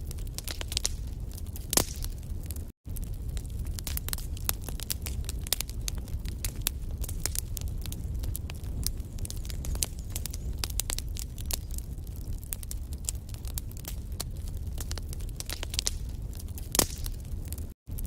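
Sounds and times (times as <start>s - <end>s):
fire flames rumbling: 0.0s - 18.0s
logs crackling and snapping: 0.0s - 18.0s.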